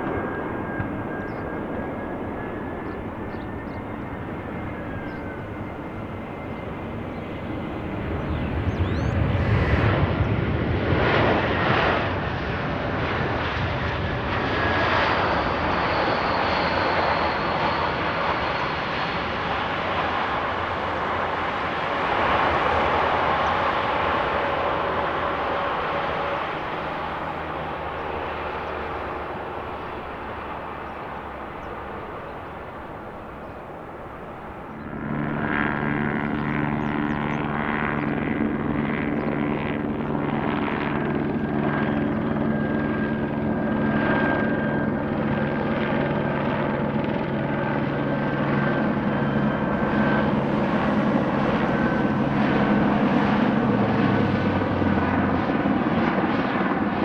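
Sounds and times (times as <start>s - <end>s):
aircraft engine running close by: 0.0s - 57.0s
distant aircraft noise: 0.0s - 57.0s.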